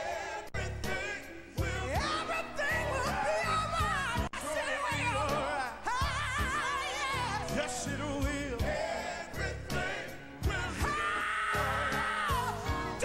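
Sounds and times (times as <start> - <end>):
choir singing: 0.0 - 13.0
lead vocalists singing: 0.0 - 13.0.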